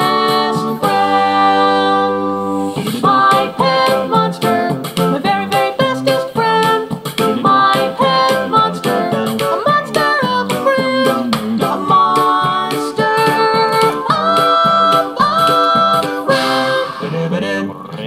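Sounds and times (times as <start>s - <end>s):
vocal percussive hits: 0.0s - 18.0s.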